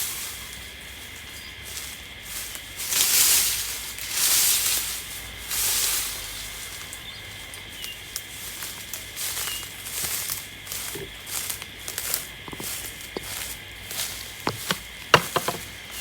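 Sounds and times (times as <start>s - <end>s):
rake rustling through leaves: 0.0s - 16.0s.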